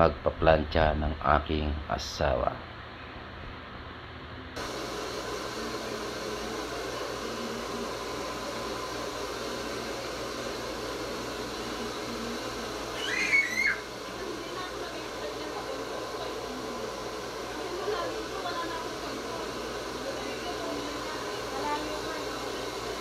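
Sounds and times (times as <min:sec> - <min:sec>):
hair dryers blowing: 0:04.6 - 0:23.0.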